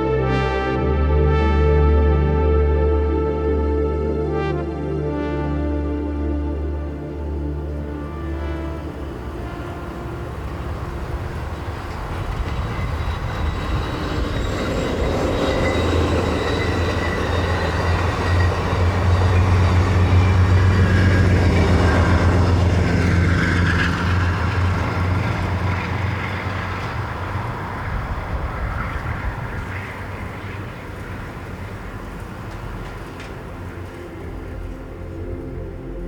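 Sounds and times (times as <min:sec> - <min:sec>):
train passing rumble: 0:04.3 - 0:36.0.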